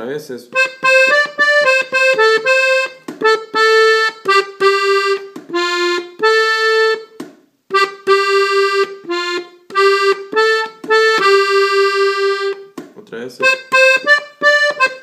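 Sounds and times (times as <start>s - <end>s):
button accordion melody: 0.5s - 12.8s, 13.4s - 15.0s.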